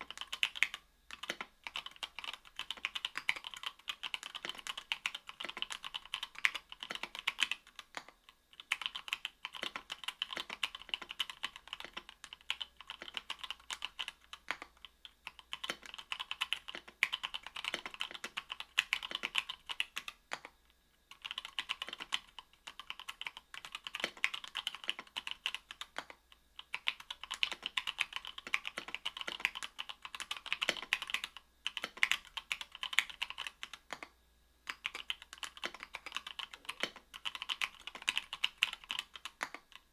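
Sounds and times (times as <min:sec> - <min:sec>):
mechanical keyboard typing: 0:00.0 - 0:34.1, 0:34.7 - 0:39.9.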